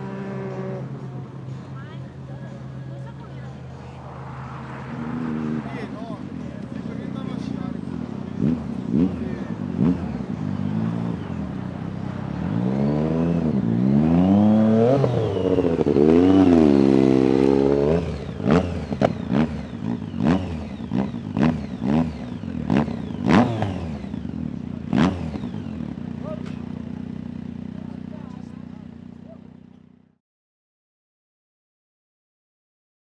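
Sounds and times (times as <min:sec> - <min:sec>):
motorcycle engine revving and blipping: 0:00.0 - 0:01.2, 0:04.7 - 0:30.2.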